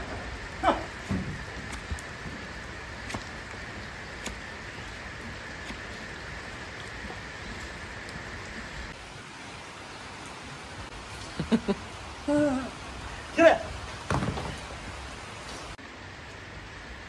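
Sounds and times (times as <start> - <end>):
rain on a shed roof: 0.0 - 17.0.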